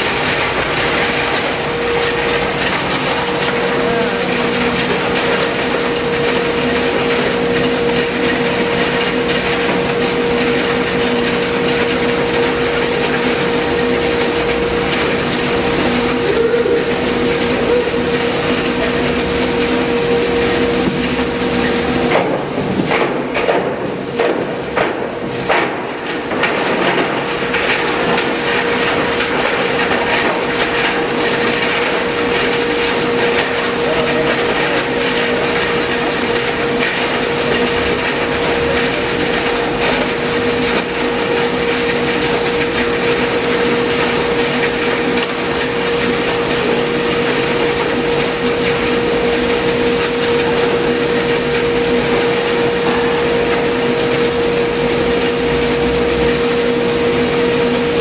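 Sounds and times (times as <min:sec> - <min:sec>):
granulator mechanical hum: 0:00.0 - 0:58.0.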